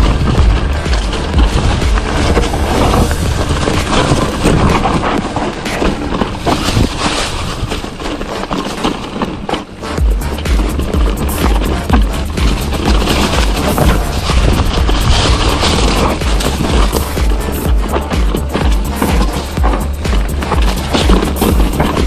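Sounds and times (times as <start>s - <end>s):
wind buffeting microphone: 0.0s - 8.2s, 11.8s - 22.0s
bike rattling on bumpy trail: 0.0s - 22.0s.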